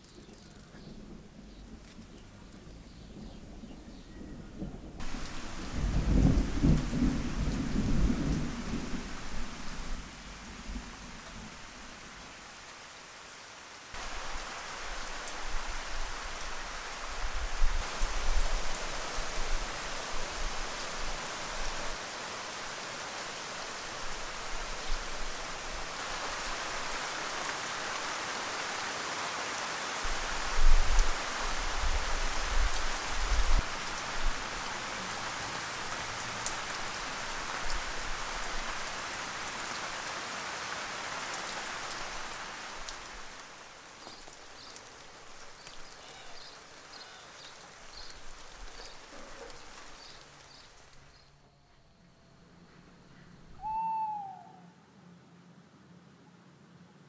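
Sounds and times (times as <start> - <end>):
steady rain falling: 0.0 - 53.7.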